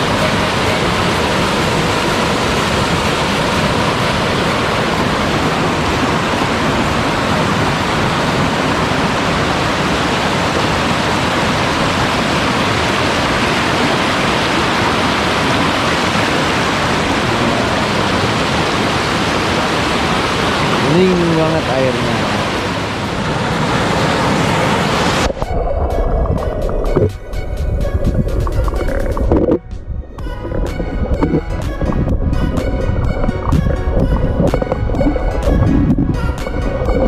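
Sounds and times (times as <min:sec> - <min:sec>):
river water rushing: 0:00.0 - 0:29.6, 0:30.2 - 0:37.0.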